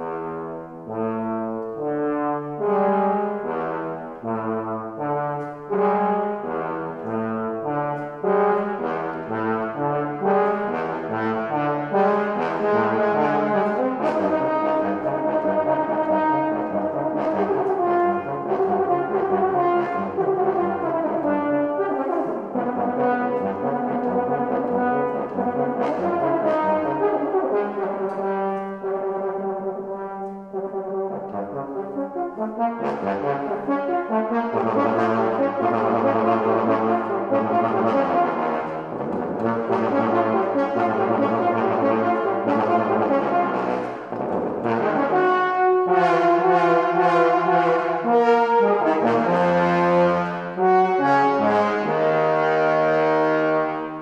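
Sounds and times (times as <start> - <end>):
bass trombone low notes: 0.0 - 54.0
tenor trombone: 0.0 - 54.0.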